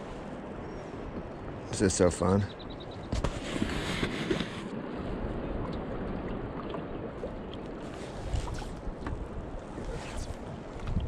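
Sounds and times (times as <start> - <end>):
water lapping against a kayak hull: 0.0 - 11.0
wind buffeting the microphone: 0.0 - 11.0.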